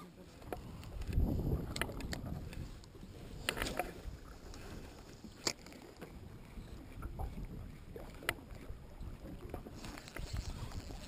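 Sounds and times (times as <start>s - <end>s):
faint wind and water rumble: 0.0s - 11.0s.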